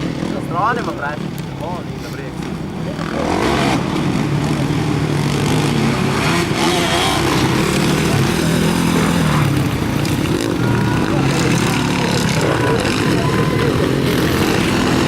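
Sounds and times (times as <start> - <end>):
motocross engines revving: 0.0 - 15.0.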